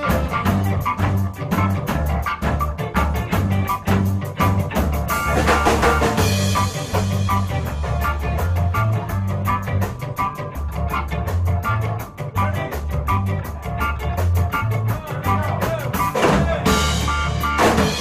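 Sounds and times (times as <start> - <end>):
instrumental ska band: 0.0 - 18.0.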